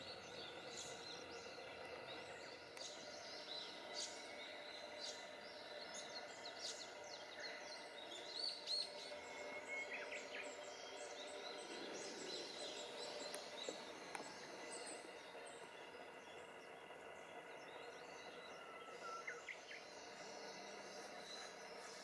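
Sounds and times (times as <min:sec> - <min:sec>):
bird chirps: 0:00.0 - 0:22.0
insects: 0:00.0 - 0:22.0.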